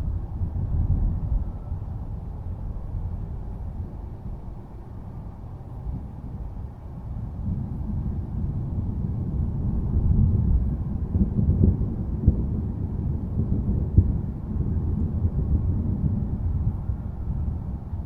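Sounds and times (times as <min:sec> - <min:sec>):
rolling thunder rumble: 0:00.0 - 0:18.0.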